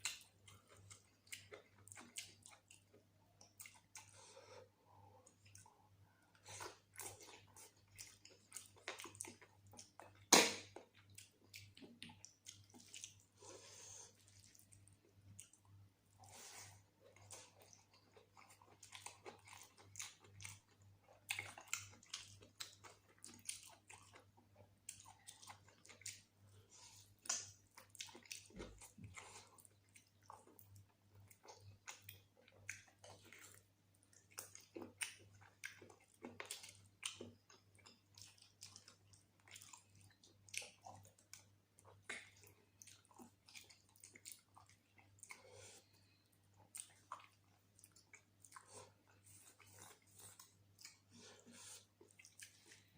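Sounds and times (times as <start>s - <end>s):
faint low hum: 0.0s - 52.9s
person chewing food: 0.0s - 52.9s.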